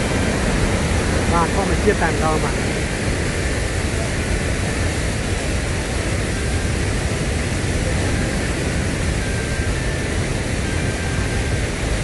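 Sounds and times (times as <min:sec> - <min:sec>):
waterfall and rapids roaring: 0:00.0 - 0:12.0.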